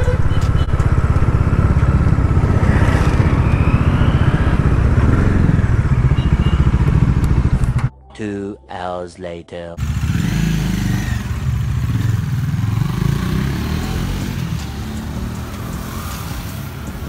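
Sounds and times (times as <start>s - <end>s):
motorcycle engine running: 0.0s - 7.9s, 9.8s - 17.0s.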